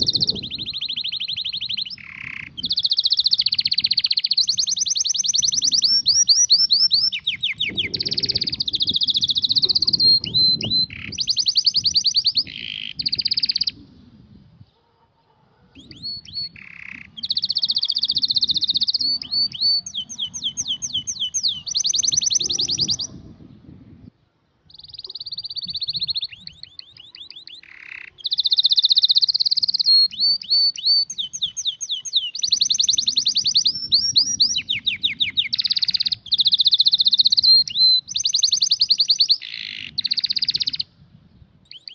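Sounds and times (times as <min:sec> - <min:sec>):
canary singing trills: 0:00.0 - 0:13.9, 0:15.7 - 0:23.6, 0:24.7 - 0:40.9, 0:41.6 - 0:41.9.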